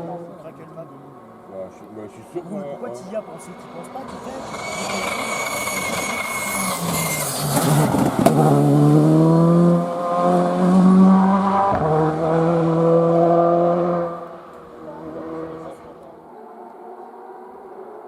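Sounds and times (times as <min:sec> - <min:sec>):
high whine of approaching car: 0:00.0 - 0:18.0
rally car engine at full throttle: 0:00.0 - 0:18.0.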